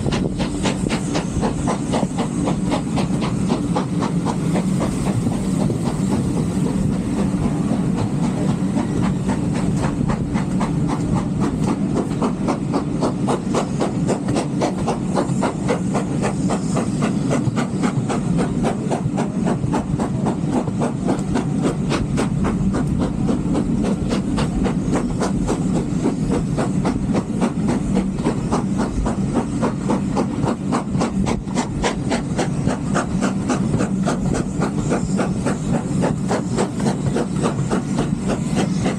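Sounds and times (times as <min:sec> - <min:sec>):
steam train running: 0:00.0 - 0:38.9.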